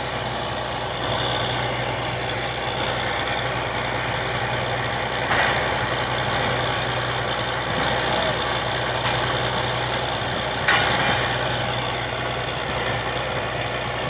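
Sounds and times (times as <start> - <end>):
continuous machinery noise: 0.0 - 14.0
drilling rig engine humming: 0.0 - 14.0.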